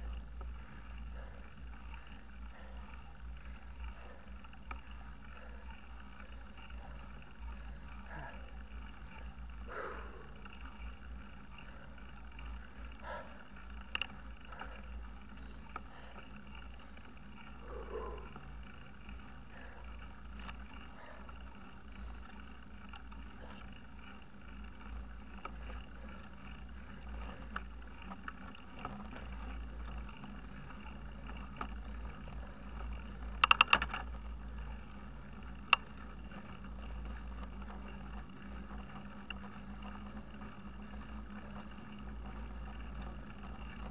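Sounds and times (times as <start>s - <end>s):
bike rattling clicks: 0.0s - 43.9s.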